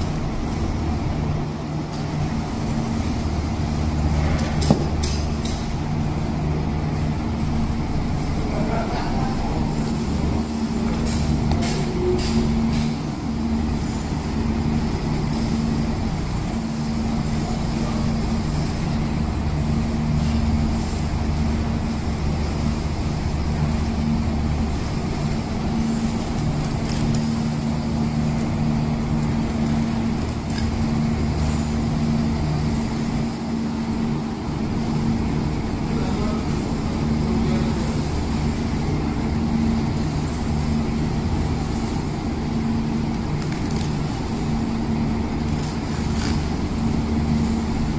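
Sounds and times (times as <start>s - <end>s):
low machinery hum: 0.0s - 47.9s.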